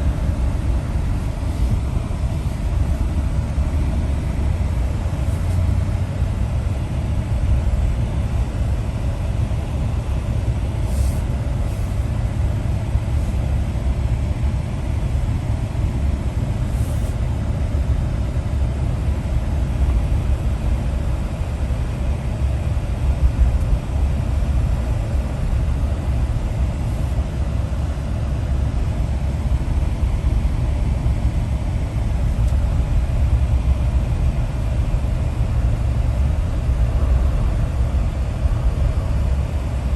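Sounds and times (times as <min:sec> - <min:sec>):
vehicle low rumble from inside: 0:00.0 - 0:39.9.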